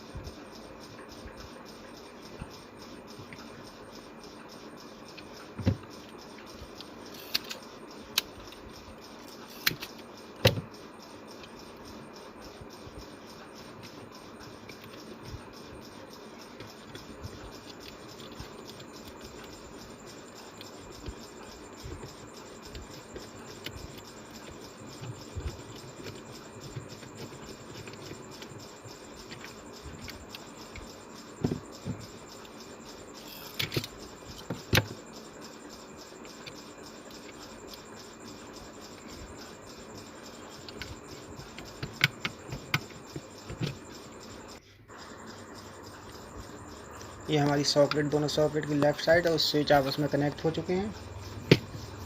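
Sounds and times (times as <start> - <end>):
steady background hiss: 0.0 - 52.0
scratching and small clicks: 0.2 - 52.0.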